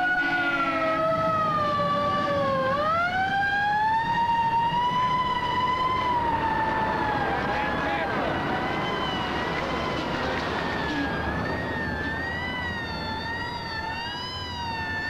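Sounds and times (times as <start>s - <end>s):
fire truck siren wailing: 0.0s - 15.0s
truck engine rumble: 0.0s - 15.0s.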